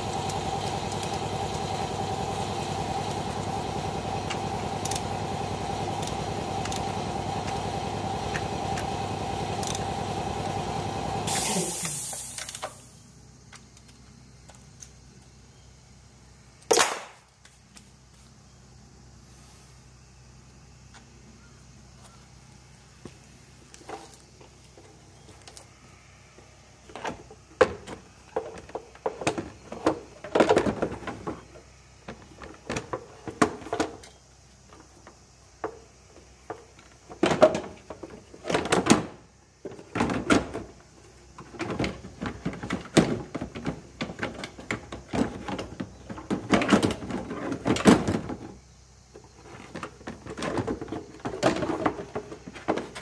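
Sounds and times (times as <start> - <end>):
engine parts clunking and rattling: 0.0 - 15.4, 20.8 - 53.0.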